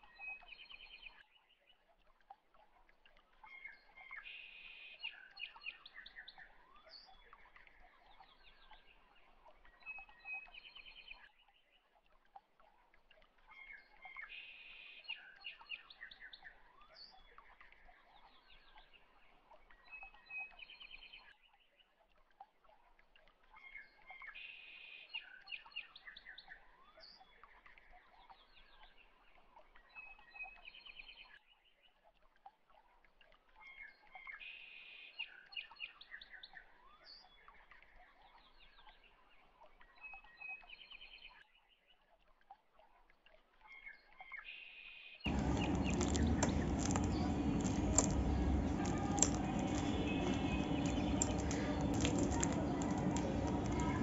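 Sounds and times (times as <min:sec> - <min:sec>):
faint bird chirping: 0:00.0 - 0:11.9, 0:13.0 - 0:22.0, 0:23.4 - 0:32.1, 0:33.5 - 0:42.1, 0:43.6 - 0:54.0.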